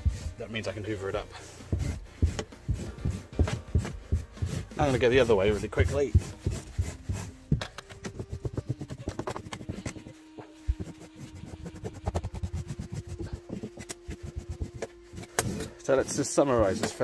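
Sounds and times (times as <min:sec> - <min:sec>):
lint remover scraping carpet: 0:00.0 - 0:17.0.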